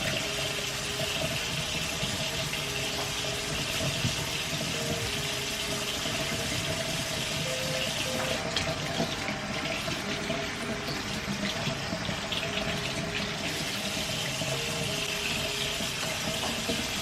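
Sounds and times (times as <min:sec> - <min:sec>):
faucet running water: 0:00.0 - 0:17.0.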